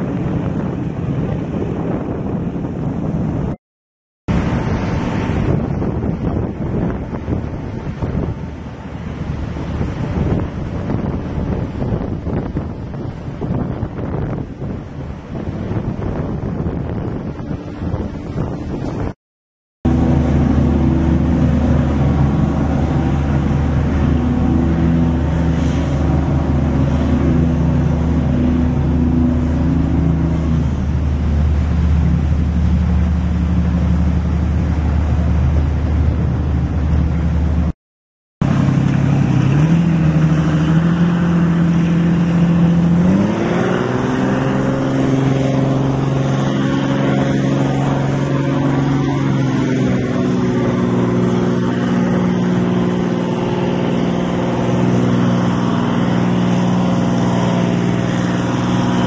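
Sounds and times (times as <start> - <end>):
tugboat diesel engine droning: 4.3 - 19.1, 19.9 - 37.7, 38.4 - 59.0.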